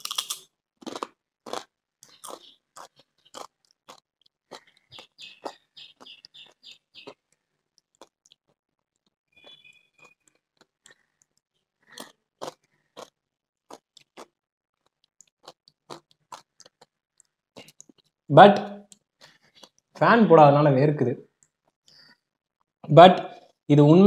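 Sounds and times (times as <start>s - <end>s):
chewing crisp tortilla chip: 0.0s - 18.2s, 18.8s - 20.0s.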